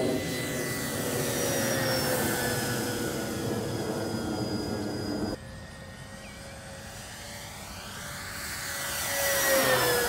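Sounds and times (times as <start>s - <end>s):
model plane propellers humming: 0.0s - 10.0s.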